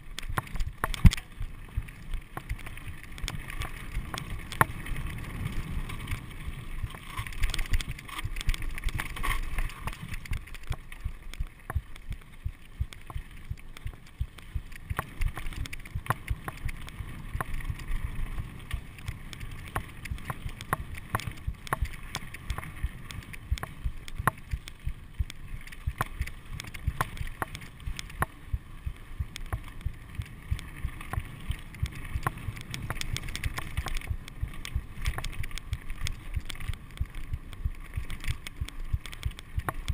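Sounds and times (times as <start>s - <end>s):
bike rattling over stones: 0.0s - 39.9s
bike tyres rumbling on dirt: 0.0s - 39.9s.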